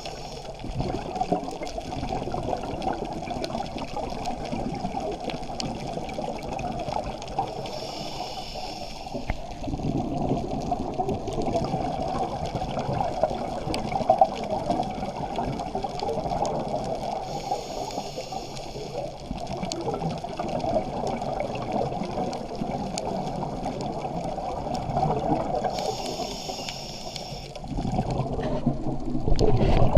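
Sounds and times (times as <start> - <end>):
scuba bubbles gurgling: 0.0 - 29.9
underwater rush of water: 0.0 - 29.9.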